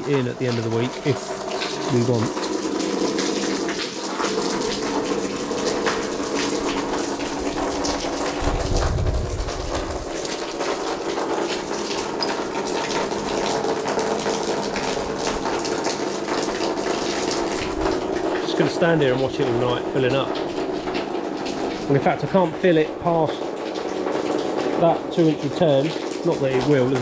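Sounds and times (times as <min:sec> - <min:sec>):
water pouring and splashing: 0:00.0 - 0:27.0.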